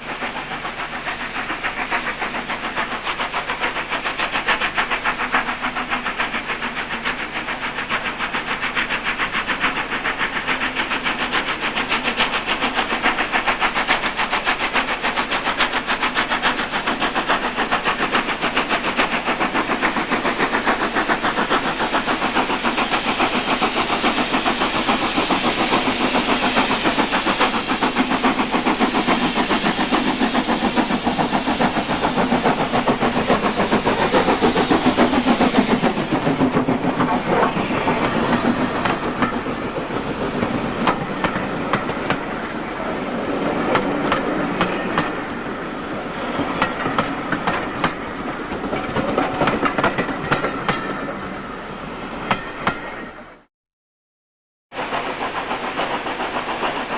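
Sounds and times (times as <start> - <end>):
train wheels clicking over rail joints: 0.0 - 51.4, 54.8 - 56.9
steam locomotive exhaust beats: 0.0 - 53.5, 54.7 - 56.9.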